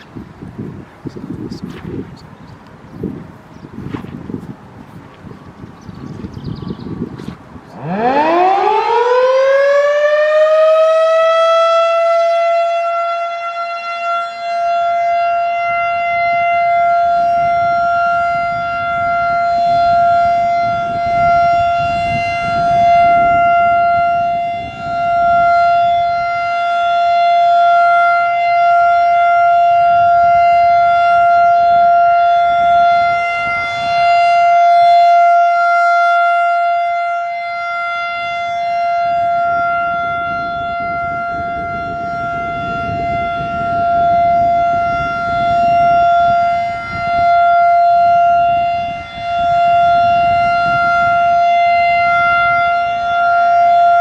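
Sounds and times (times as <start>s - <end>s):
warning siren: 0.0s - 54.0s.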